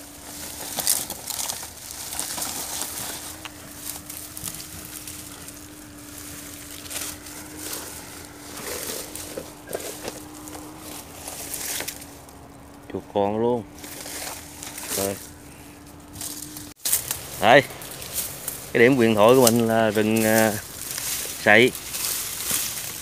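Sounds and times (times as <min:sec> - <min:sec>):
dry straw crackling and rustling: 0:00.0 - 0:23.0.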